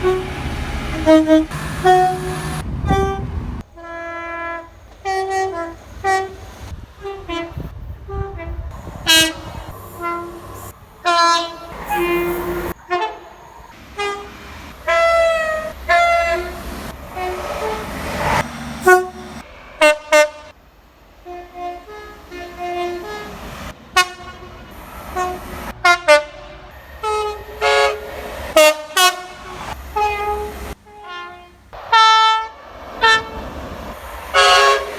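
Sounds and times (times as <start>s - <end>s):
two-tone train horn blasts: 0.0s - 20.6s, 21.2s - 34.9s.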